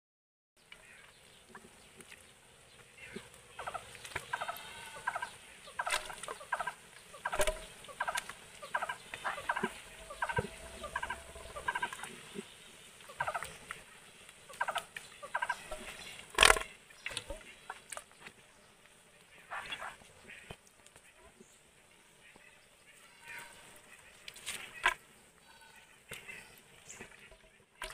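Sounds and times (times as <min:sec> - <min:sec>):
fowl rattling calls: 0:02.8 - 0:13.8, 0:14.4 - 0:18.3, 0:19.3 - 0:21.4, 0:22.2 - 0:27.9.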